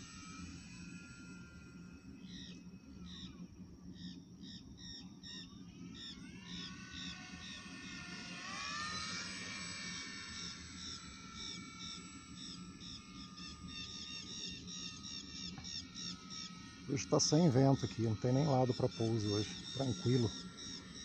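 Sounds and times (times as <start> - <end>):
model airplane engine whining: 0.0 - 21.0.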